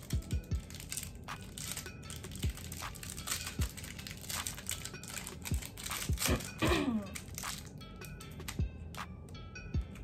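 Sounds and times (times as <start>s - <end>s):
plastic wrapper crinkling and tearing: 0.0s - 8.6s.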